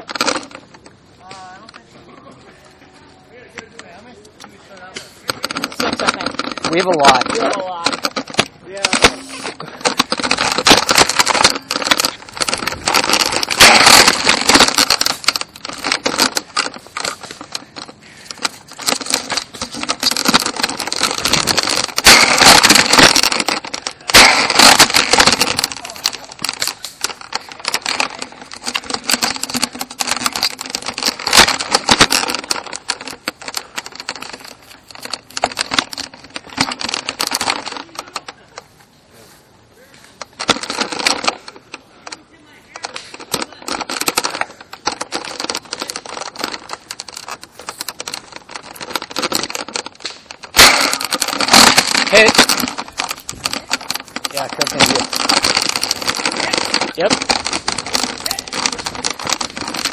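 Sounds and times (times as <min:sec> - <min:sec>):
camera rattling and knocking: 0:00.0 - 0:01.1, 0:03.6 - 0:38.7, 0:40.2 - 0:59.9.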